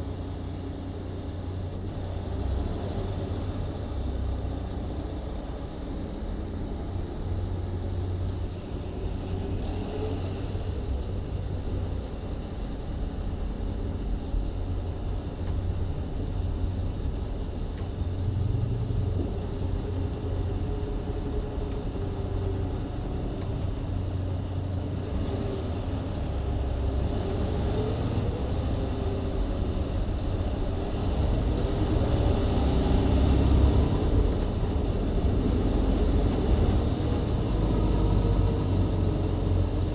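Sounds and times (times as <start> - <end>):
bus engine running: 0.0 - 39.9
low road rumble: 0.0 - 39.9.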